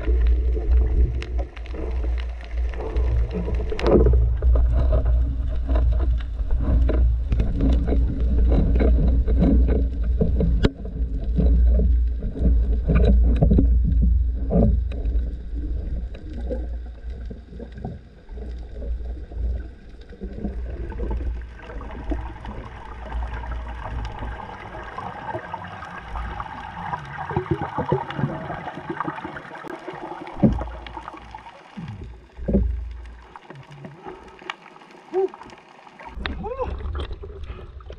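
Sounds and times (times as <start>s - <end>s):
underwater water rushing rumble: 0.0s - 37.9s.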